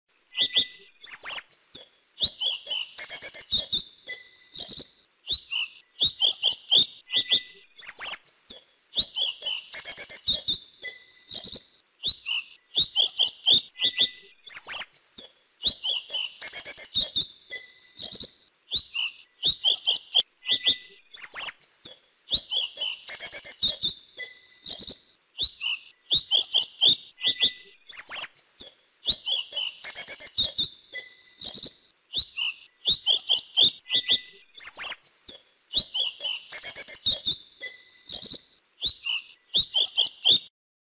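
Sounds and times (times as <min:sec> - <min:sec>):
bird singing high chirps: 0:00.3 - 0:40.5.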